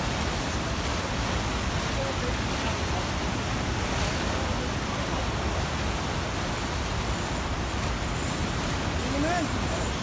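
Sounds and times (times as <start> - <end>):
whitewater rushing: 0.0 - 10.0.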